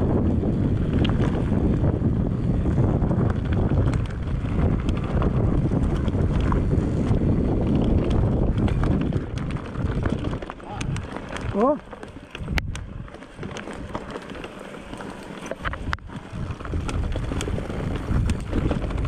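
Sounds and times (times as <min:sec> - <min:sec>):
wind buffeting microphone: 0:00.0 - 0:19.0
sharp clicks and rattles: 0:00.3 - 0:19.0.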